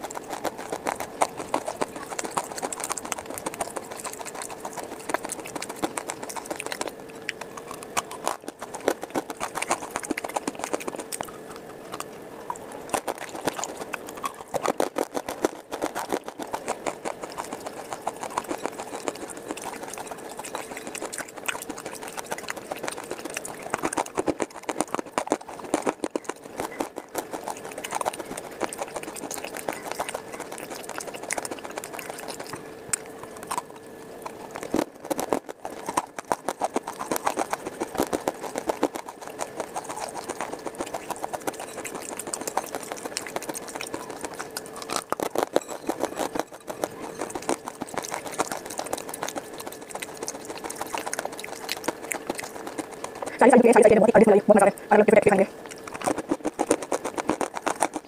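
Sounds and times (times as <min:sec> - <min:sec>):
crunching chewing: 0:00.0 - 0:58.0.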